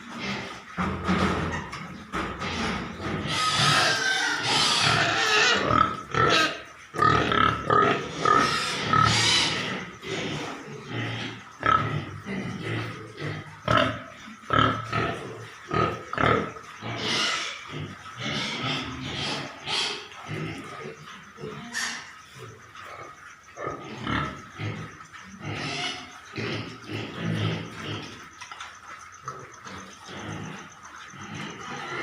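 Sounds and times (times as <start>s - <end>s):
pigs grunting and squealing: 0.0s - 32.0s.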